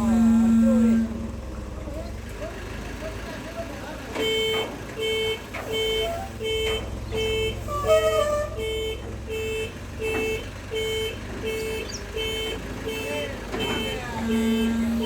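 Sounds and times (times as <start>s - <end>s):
reversing alarm beeping: 0.0s - 1.8s, 4.3s - 15.0s
diesel engine running: 0.0s - 15.0s.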